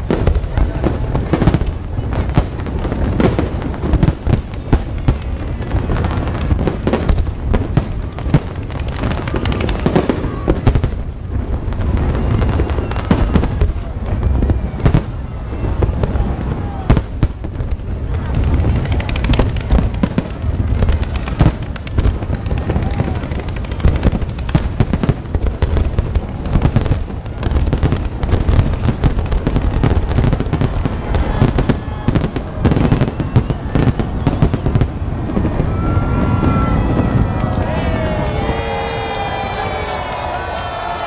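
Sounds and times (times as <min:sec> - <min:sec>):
fireworks bangs and crackling: 0:00.0 - 0:41.0
onlookers' voices: 0:00.0 - 0:41.0.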